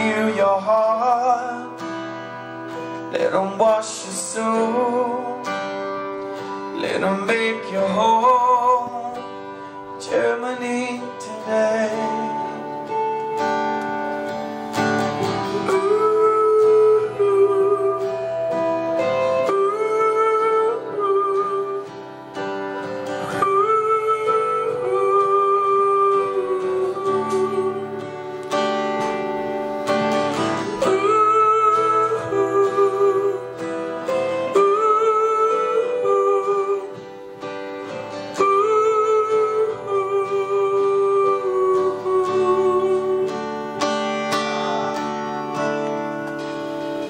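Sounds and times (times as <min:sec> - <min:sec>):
guitar melody: 0:00.0 - 0:47.0
live rock band playing: 0:00.0 - 0:47.0.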